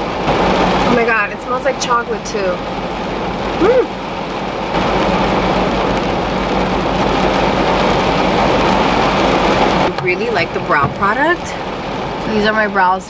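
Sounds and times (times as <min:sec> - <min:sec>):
rain on car roof: 0:00.0 - 0:13.0.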